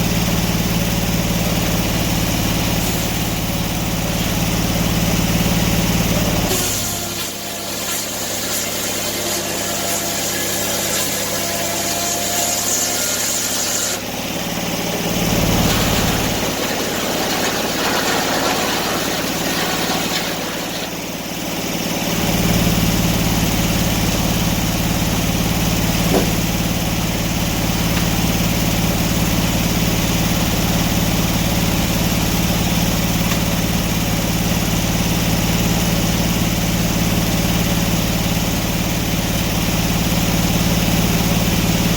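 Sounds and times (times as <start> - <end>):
engine running: 0.0 - 41.9.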